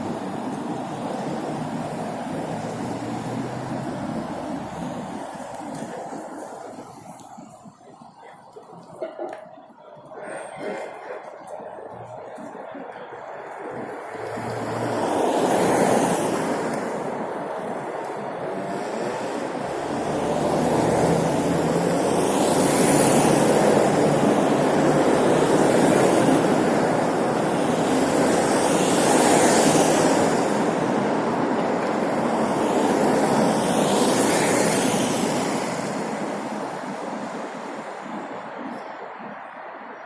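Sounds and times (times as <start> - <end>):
road noise: 0.0 - 40.0
traffic going by: 0.0 - 40.0
wind noise: 0.0 - 40.0.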